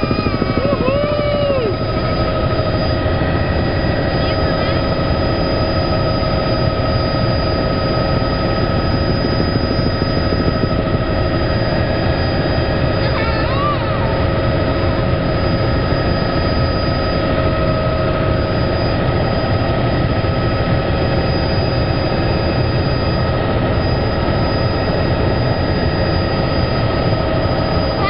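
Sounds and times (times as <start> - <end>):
helicopter engine and rotor din: 0.0 - 28.0.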